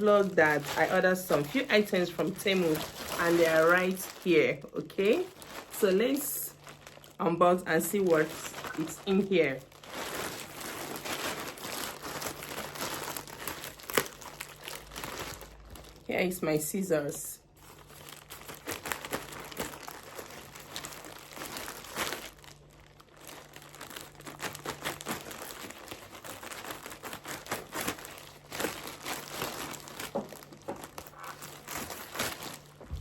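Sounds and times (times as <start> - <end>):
packaging crinkling and rustling: 0.0 - 16.2, 17.1 - 33.0.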